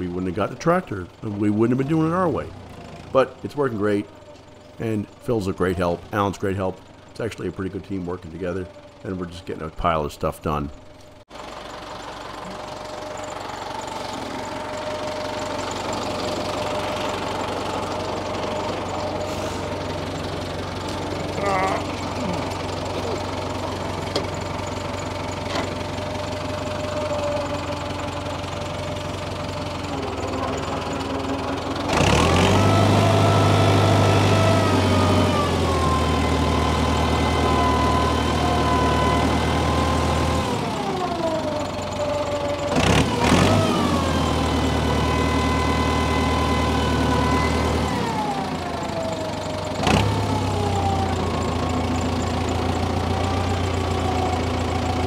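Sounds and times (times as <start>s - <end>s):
tractor engine revving: 0.0s - 55.0s.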